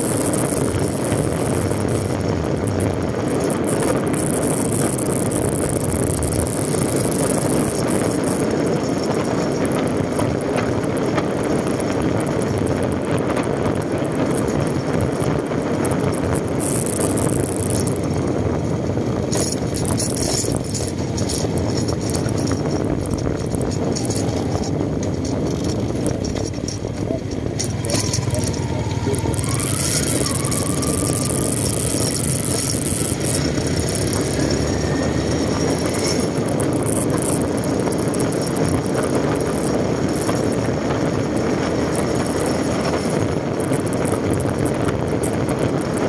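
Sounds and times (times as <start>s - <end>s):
wind rushing: 0.0s - 45.6s
motorcycle engine: 0.0s - 46.0s
road noise: 0.0s - 46.0s.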